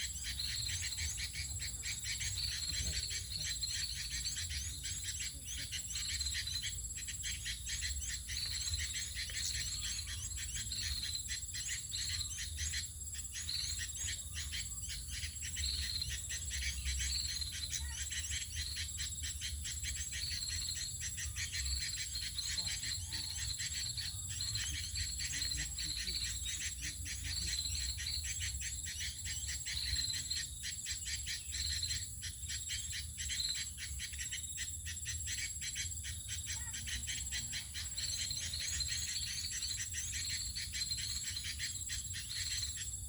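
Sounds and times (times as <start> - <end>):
insects pulsing buzz: 0.0 - 43.0
short high insect calls: 0.0 - 43.0.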